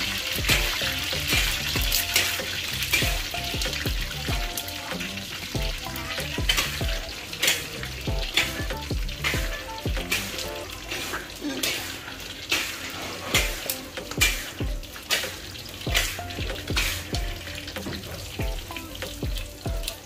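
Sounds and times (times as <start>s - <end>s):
food deep-frying in hot oil: 0.0s - 20.0s
oil popping and spattering: 0.0s - 20.0s.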